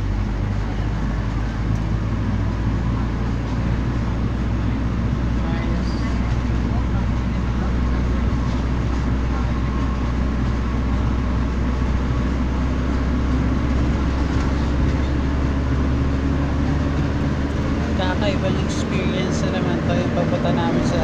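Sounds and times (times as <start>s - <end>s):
road noise: 0.0s - 21.0s
vehicle engine running: 0.0s - 21.0s.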